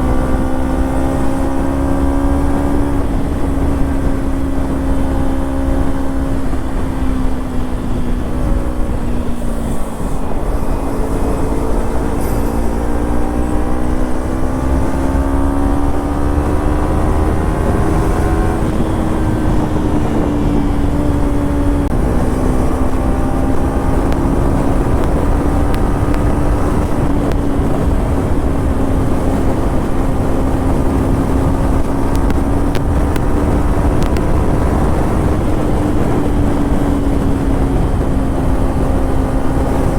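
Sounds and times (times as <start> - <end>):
motorcycle engine riding: 0.0 - 39.9
wind and road rumble: 0.0 - 39.9.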